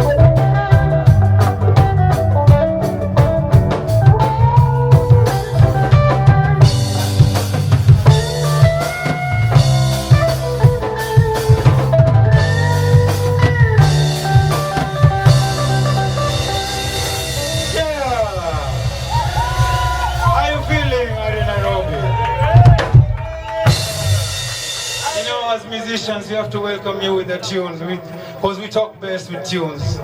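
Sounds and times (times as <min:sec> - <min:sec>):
sustained keyboard chords: 0:00.0 - 0:25.2
bass line: 0:00.0 - 0:25.3
drum kit with rimshots: 0:00.0 - 0:26.6.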